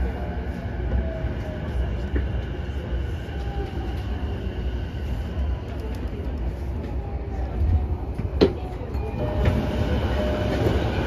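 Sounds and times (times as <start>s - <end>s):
faint train whine: 0.0s - 11.0s
train wheels rumbling on rail: 0.0s - 11.0s.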